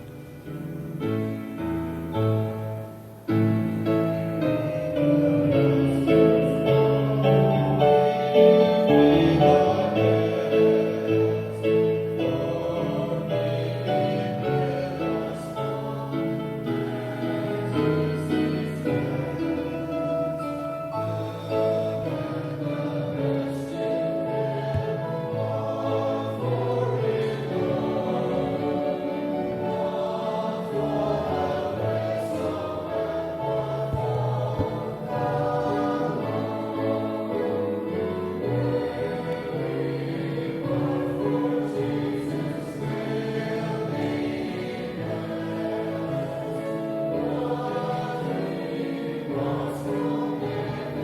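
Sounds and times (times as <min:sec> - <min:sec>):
group singing a hymn: 0:00.0 - 0:51.0.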